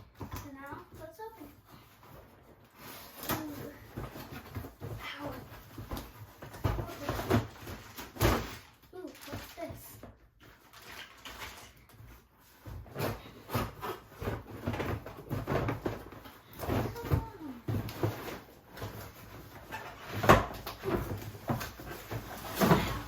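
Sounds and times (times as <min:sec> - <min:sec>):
plastic and cardboard packaging rustling: 0:00.0 - 0:23.0.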